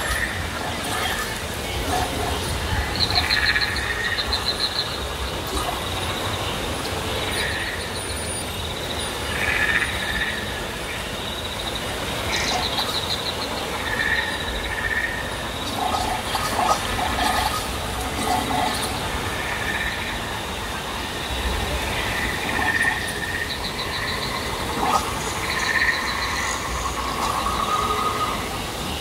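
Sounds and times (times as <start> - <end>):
high-pitched whine: 0.0 - 29.0
outdoor background noise: 0.0 - 29.0.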